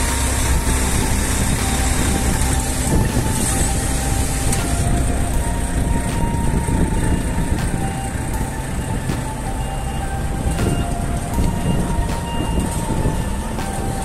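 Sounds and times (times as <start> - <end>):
constant hiss: 0.0 - 14.0
diesel truck engine idling: 0.0 - 14.0.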